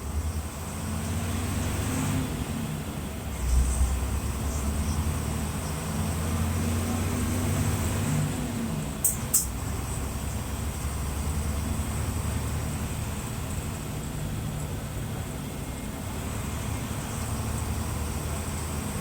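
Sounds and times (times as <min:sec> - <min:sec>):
diesel bus engine rumbling: 0:00.0 - 0:19.0.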